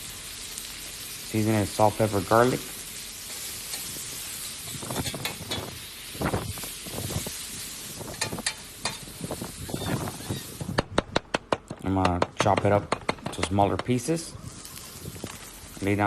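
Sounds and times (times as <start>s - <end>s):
meat sizzling on a griddle: 0.0s - 11.0s, 12.6s - 16.0s.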